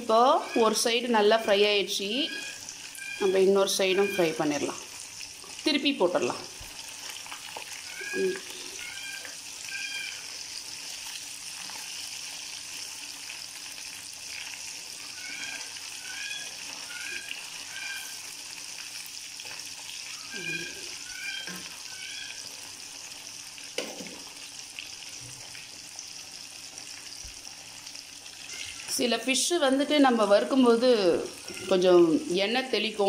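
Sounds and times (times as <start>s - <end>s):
fish deep-frying in oil: 0.0s - 33.0s.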